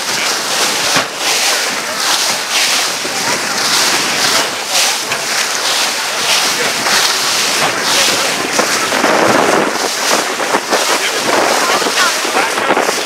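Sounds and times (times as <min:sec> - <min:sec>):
sea water splashing along hull: 0:00.0 - 0:13.0
wind buffeting microphone: 0:00.0 - 0:13.0.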